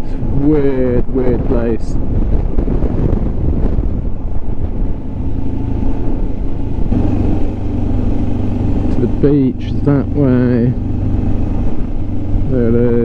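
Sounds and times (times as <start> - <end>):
road rumble: 0.0 - 13.0
wind buffeting microphone: 0.0 - 13.0
motorcycle engine: 2.0 - 13.0.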